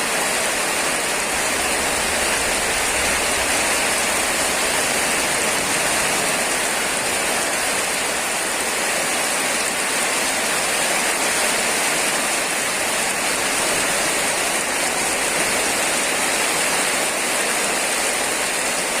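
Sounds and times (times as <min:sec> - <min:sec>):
rain falling steadily: 0:00.0 - 0:19.0.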